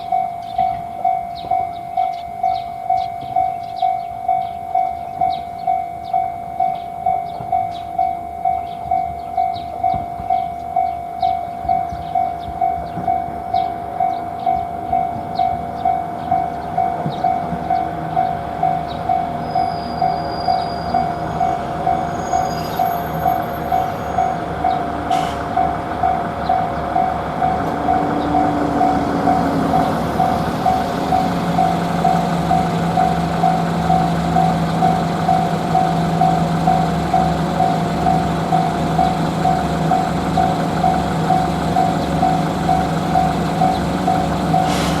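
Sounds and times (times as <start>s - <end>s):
railroad crossing bell ringing: 0.0s - 45.0s
train rumble: 0.0s - 45.0s.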